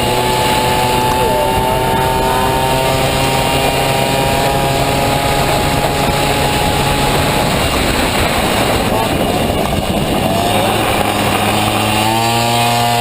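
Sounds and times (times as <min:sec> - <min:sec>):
heavy rushing noise: 0:00.0 - 0:13.0
scooter engine revving high: 0:00.0 - 0:13.0.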